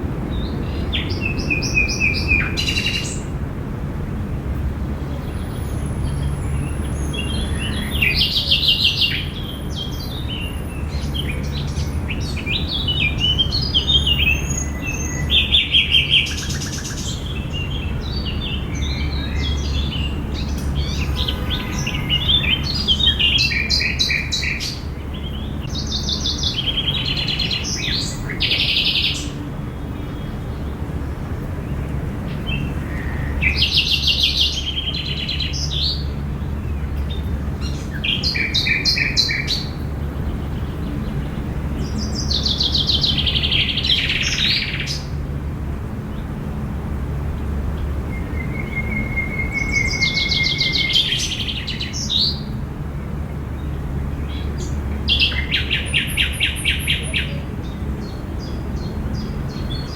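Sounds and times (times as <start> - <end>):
low park ambience hum: 0.0 - 59.9
songbirds chirping and singing: 5.2 - 30.9, 31.5 - 45.2, 47.7 - 59.9.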